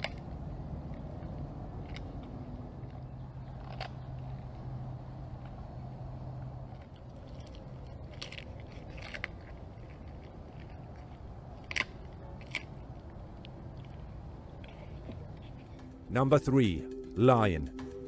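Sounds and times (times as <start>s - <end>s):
big cat chewing with crunches: 0.0s - 16.1s
low steady hum: 0.0s - 18.0s.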